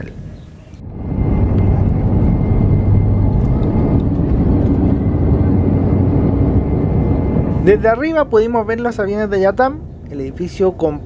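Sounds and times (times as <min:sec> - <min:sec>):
faint high whine: 0:00.0 - 0:11.0
jet engines rumbling: 0:00.0 - 0:11.0.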